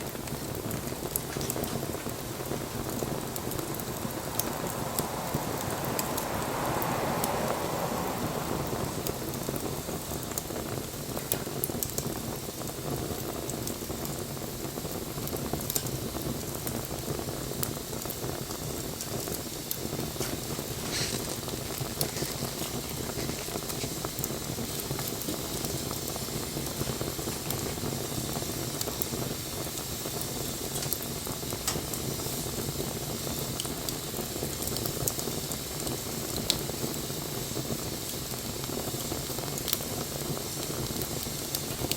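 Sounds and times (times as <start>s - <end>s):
bonfire flame rushing: 0.0s - 41.9s
fire crackling and popping: 0.0s - 41.9s.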